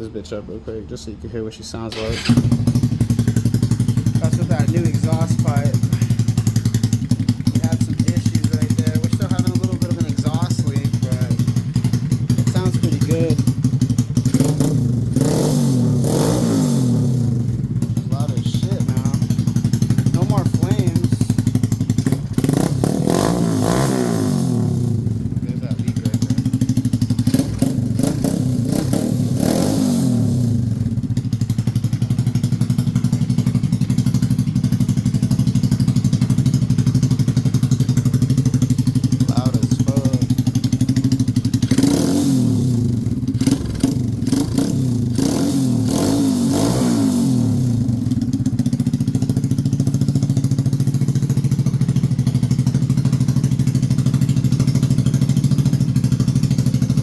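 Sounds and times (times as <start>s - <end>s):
motorcycle engine idling and revving: 1.8s - 57.0s.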